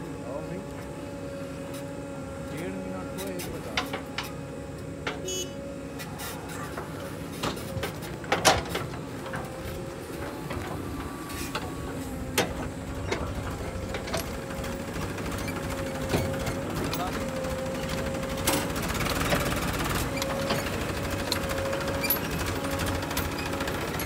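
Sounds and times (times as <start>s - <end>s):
backhoe engine and hydraulics whine: 0.0s - 24.0s.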